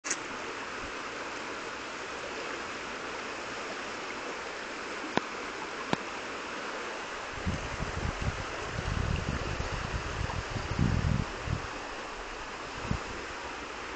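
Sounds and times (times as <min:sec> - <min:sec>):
river rushing: 0:00.0 - 0:13.9.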